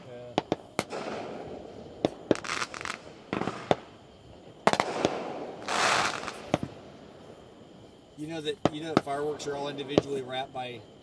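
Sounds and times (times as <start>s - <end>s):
fireworks bangs: 0.0s - 7.4s, 8.2s - 10.5s
fireworks crackling hiss: 0.0s - 11.0s.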